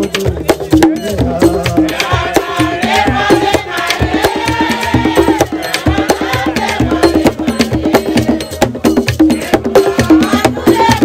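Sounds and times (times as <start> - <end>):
quick steady drumming: 0.0 - 11.0.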